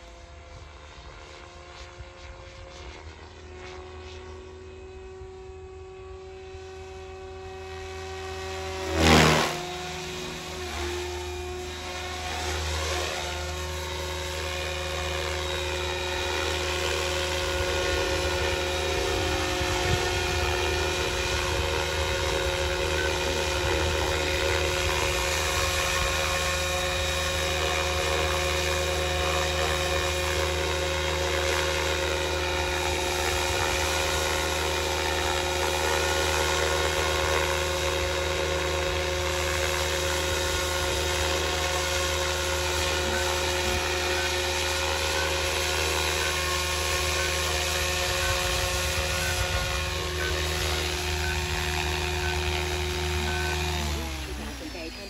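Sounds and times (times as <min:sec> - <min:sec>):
rc helicopter whining: 0:00.0 - 0:55.0.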